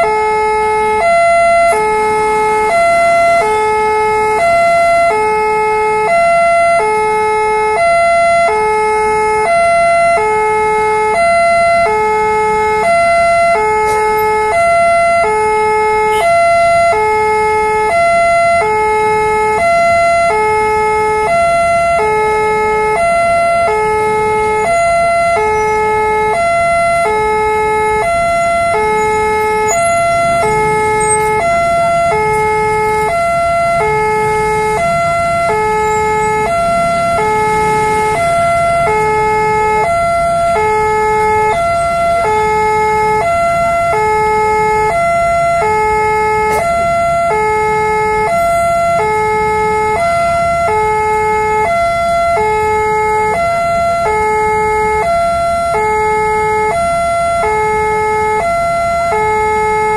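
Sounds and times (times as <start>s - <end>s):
level crossing two-tone alarm: 0.0s - 59.9s.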